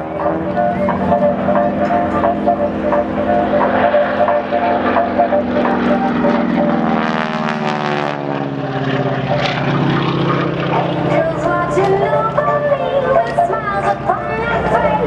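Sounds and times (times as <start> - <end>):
biplane engine drone: 0.0 - 15.0.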